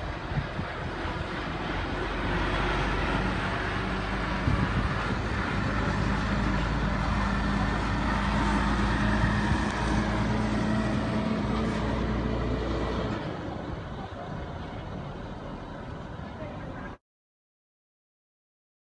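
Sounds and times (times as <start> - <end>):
truck driving past: 0.0 - 17.0.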